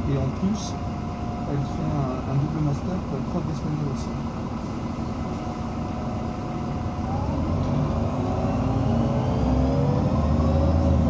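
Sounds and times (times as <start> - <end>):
bus diesel engine pulling away: 0.0 - 11.0.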